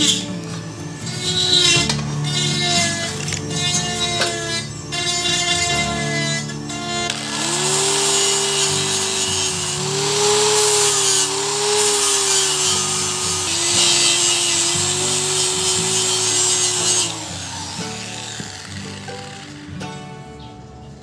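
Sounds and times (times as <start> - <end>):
power tool whining on metal: 0.0 - 20.1
background music: 0.0 - 21.0.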